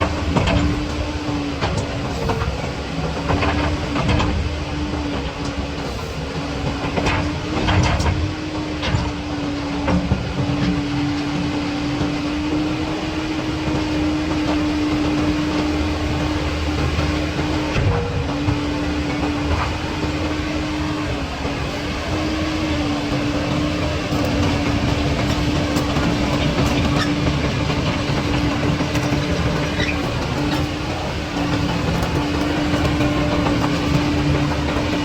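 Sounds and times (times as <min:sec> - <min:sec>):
excavator diesel engine humming: 0:00.0 - 0:35.0.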